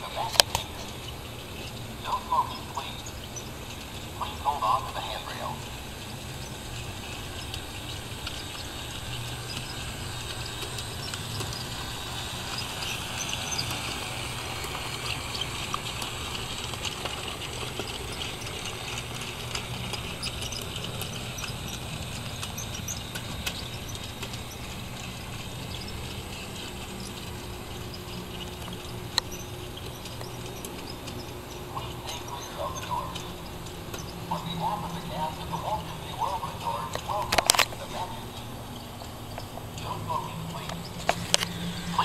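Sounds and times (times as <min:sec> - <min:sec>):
toy train motor hum: 0:00.0 - 0:42.0
wheels clicking on track: 0:00.0 - 0:42.0.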